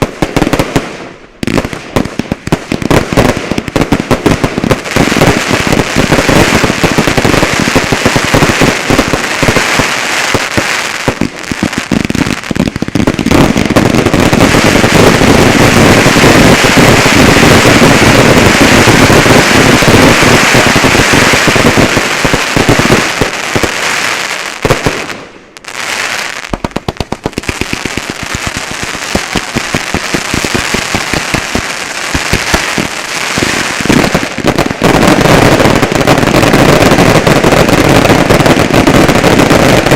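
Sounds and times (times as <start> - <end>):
fireworks barrage: 0.0 - 39.9.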